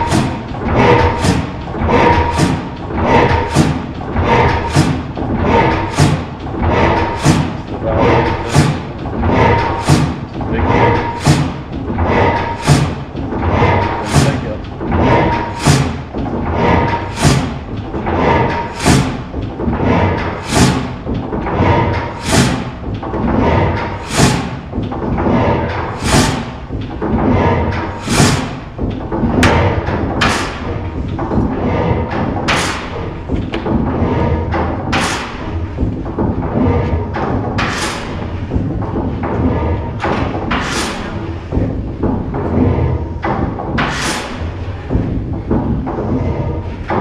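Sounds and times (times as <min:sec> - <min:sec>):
stationary gas engine beats: 0:00.0 - 0:47.0.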